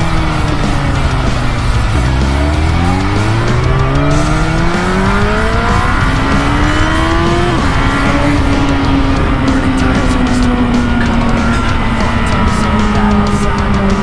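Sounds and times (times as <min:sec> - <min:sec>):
motorcycle engine accelerating: 0:00.0 - 0:14.0
wind rush: 0:00.0 - 0:14.0.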